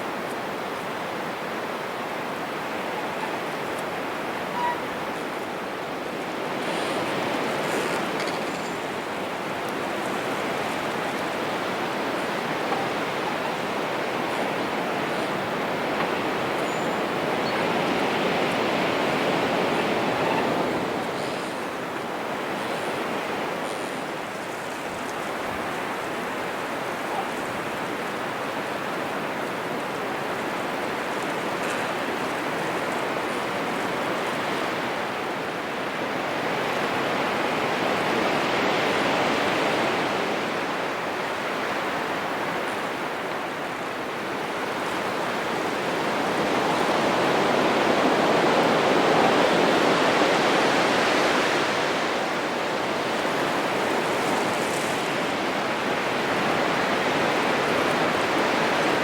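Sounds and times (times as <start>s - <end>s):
wind gusting through trees: 0.0s - 59.0s.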